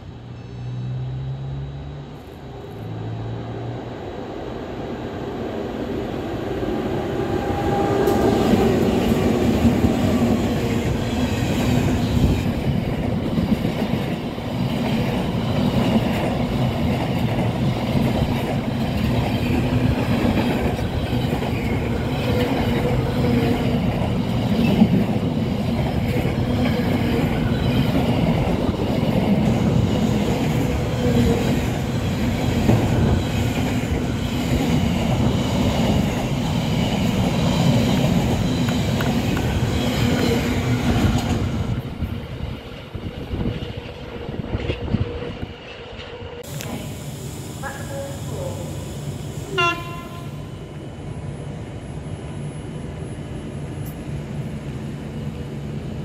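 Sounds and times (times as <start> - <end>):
freight train wheels rumbling on rails: 4.5 - 56.0.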